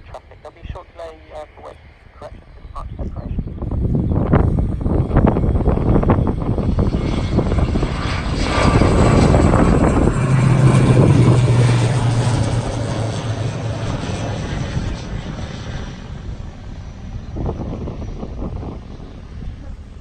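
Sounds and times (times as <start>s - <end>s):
aircraft engines roaring: 0.0s - 20.0s.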